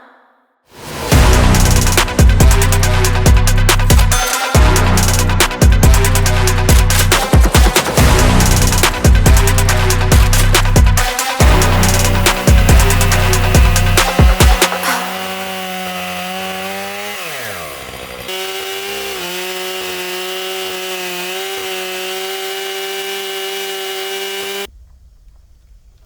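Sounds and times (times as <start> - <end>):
chainsaw cutting log: 1.1 - 24.7.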